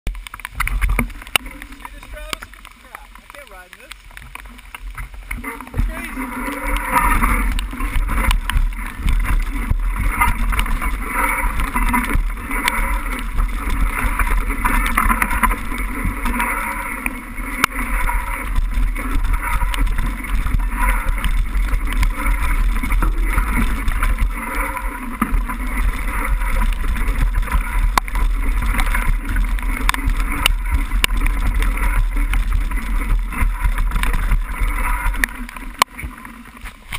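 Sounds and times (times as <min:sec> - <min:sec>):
tyres rolling through mud: 0:00.1 - 0:36.9
wind and rain on microphone: 0:00.1 - 0:36.9.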